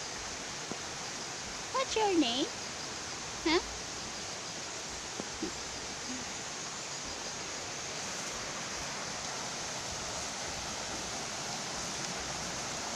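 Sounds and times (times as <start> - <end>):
running water rushing: 0.0 - 12.9.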